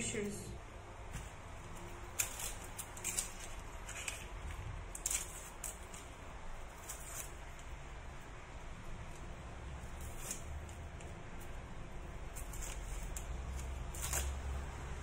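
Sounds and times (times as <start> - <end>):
onion skin crackling and tearing: 1.1 - 7.9, 9.0 - 15.0.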